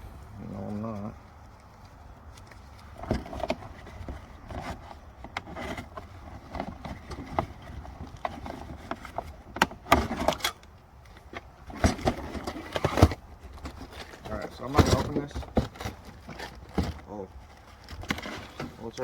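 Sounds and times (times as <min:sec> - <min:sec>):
packaging and parts handled: 0:00.6 - 0:19.0.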